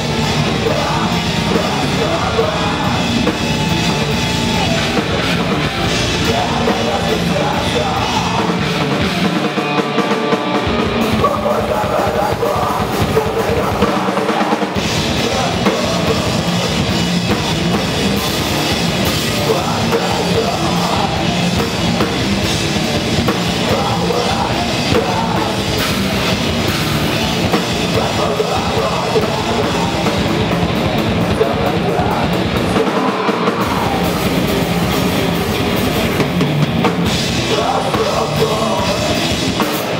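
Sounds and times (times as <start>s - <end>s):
live heavy rock band: 0.0s - 39.9s.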